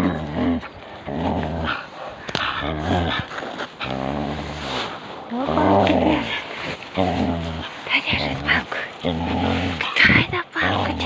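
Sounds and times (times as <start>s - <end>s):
dog growling: 0.0s - 11.0s.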